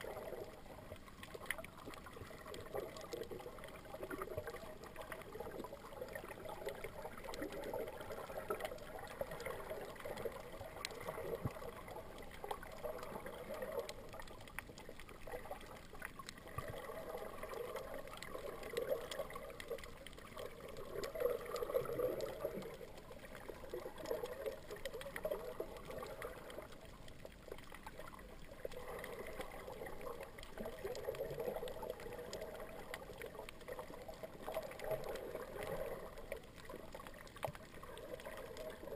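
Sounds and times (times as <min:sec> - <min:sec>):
faint clicks: 0:00.0 - 0:38.9
muffled underwater rushing: 0:00.0 - 0:38.9.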